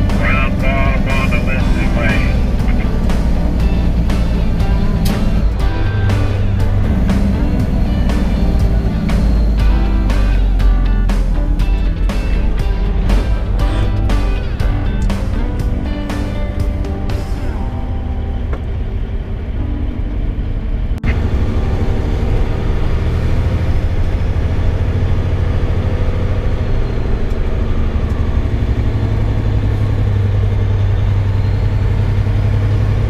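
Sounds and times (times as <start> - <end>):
background music: 0.0 - 33.0
vehicle engine and road noise: 0.0 - 33.0.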